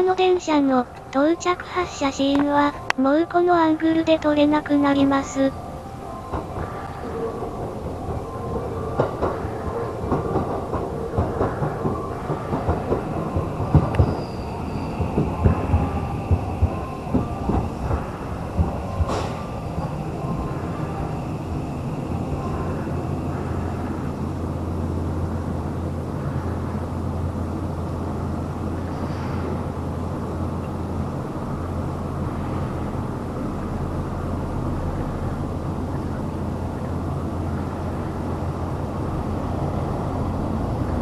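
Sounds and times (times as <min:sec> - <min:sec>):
electric train creeping in: 0:00.0 - 0:41.0
steady low hum: 0:00.0 - 0:41.0.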